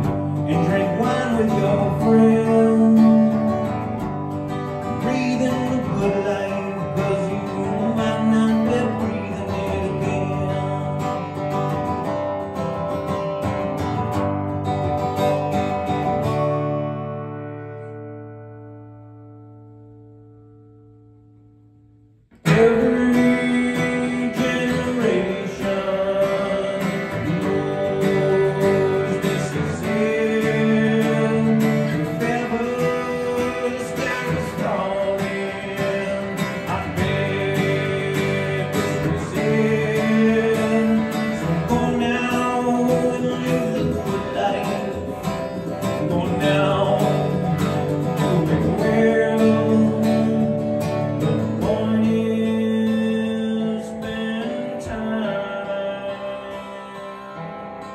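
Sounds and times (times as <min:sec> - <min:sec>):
amplified acoustic guitar strumming: 0:00.0 - 0:57.9.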